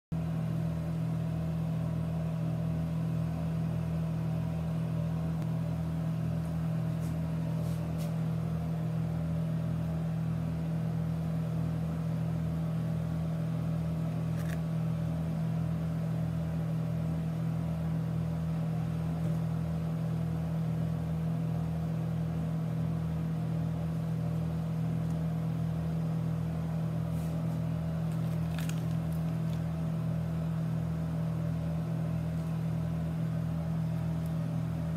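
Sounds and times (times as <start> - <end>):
low machine hum with throb: 0.2 - 34.9.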